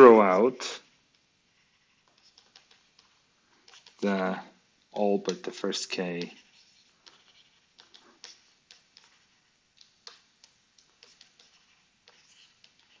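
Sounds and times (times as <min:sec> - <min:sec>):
stylus tapping and scratching screen: 0:00.0 - 0:13.0.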